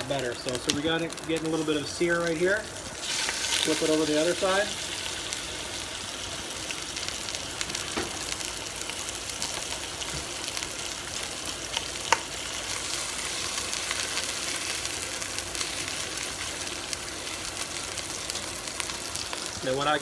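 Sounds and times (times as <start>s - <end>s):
meat searing in hot oil: 0.0s - 20.0s.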